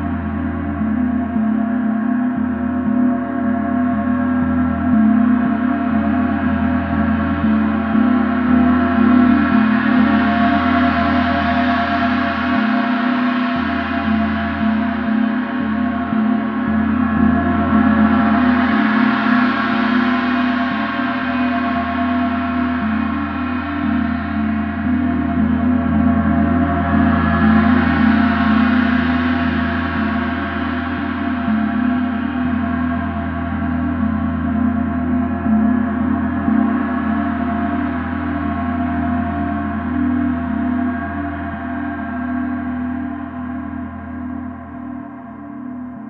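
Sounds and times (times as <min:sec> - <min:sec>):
steady deep hum: 0:00.0 - 0:46.0.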